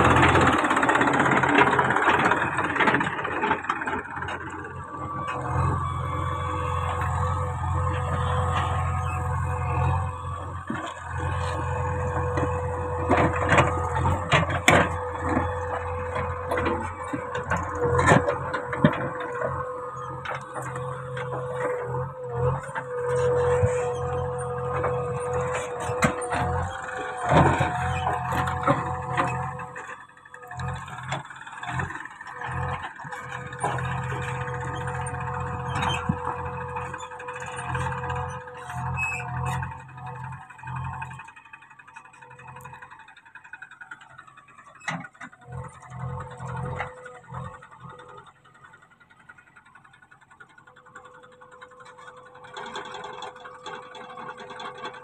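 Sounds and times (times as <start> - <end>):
backhoe engine hum and whine: 0.0 - 55.0.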